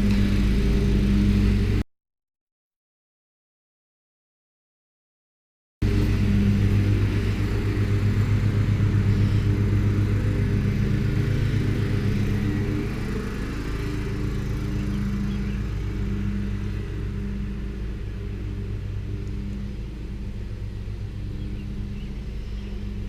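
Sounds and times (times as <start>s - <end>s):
vehicle engine low rumble: 0.0s - 1.8s, 5.8s - 23.0s.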